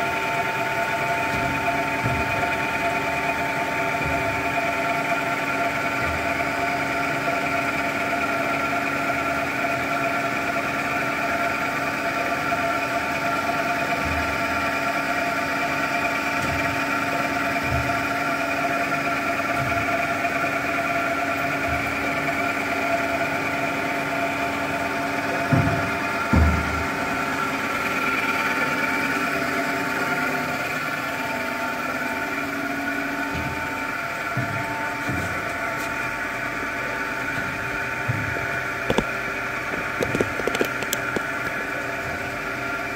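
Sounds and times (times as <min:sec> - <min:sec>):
bandsaw machine hum: 0:00.0 - 0:42.9.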